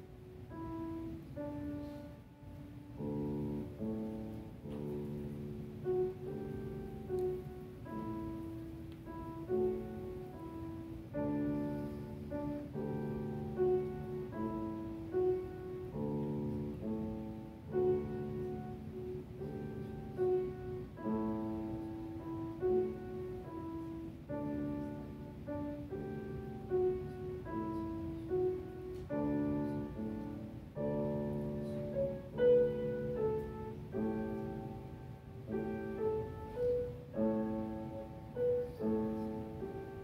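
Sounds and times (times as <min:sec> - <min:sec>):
slow piano piece: 0:00.0 - 0:40.0.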